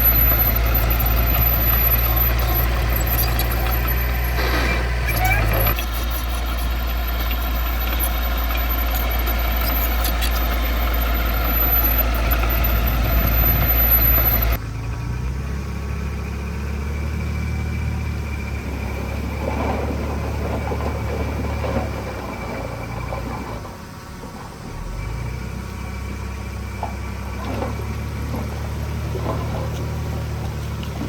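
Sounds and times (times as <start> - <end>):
diesel engines running: 0.0 - 31.0.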